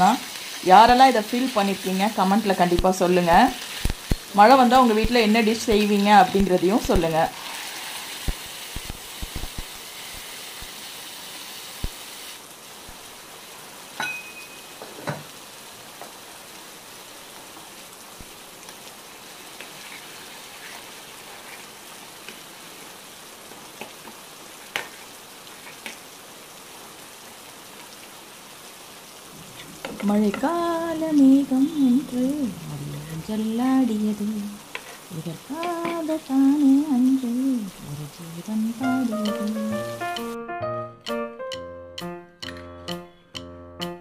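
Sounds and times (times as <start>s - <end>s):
chutney simmering sizzle: 0.0s - 40.4s.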